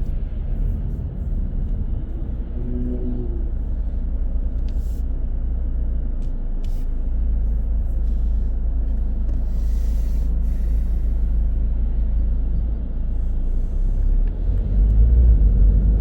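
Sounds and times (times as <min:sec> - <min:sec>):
car driving in traffic: 0:00.0 - 0:16.0.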